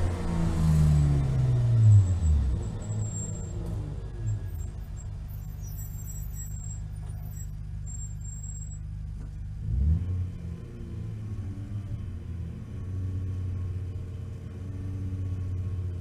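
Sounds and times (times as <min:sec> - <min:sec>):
race car engine revving and idling: 0:00.0 - 0:16.0.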